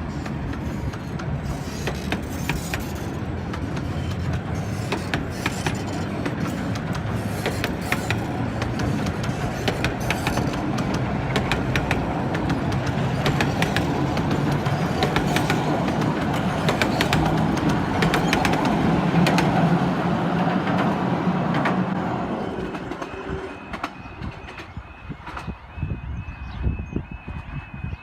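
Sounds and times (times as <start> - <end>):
wheels clicking over rails: 0.0 - 25.6
miniature train rumbling: 0.0 - 28.0.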